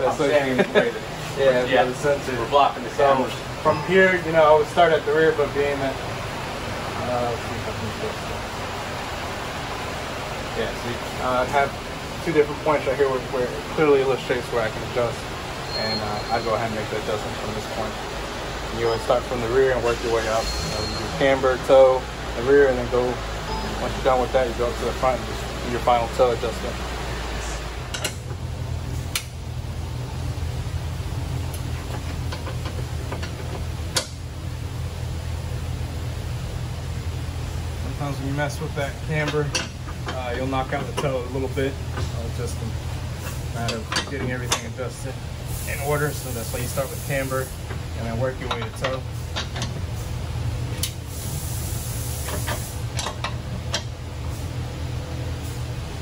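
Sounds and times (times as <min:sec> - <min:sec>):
low shop hum: 0:00.0 - 0:56.0.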